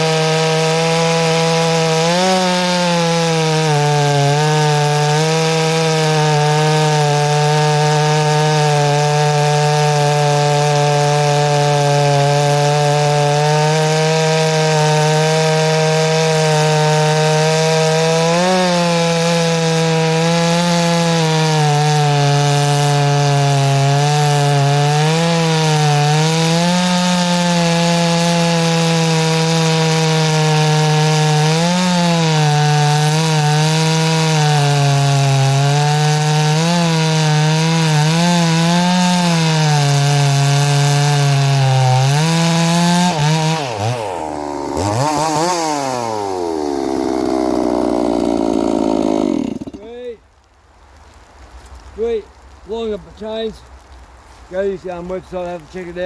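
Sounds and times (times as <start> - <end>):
chainsaw cutting wood: 0.0 - 50.2.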